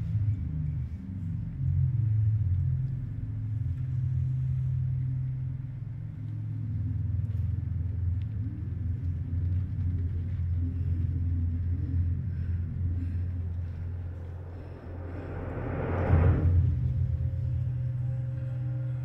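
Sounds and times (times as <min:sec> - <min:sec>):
low rumbling drone: 0:00.0 - 0:19.0.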